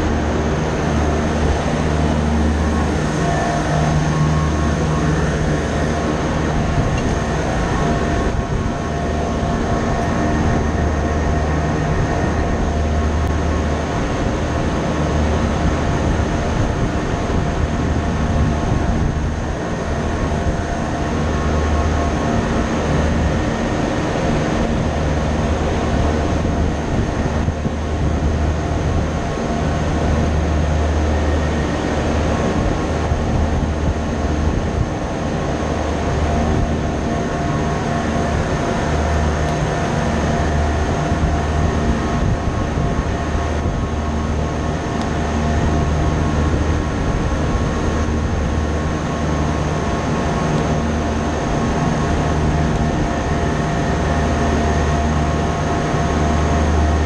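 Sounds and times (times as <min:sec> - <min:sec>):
low rumble: 0:00.0 - 0:57.0
machinery drone: 0:00.0 - 0:57.0.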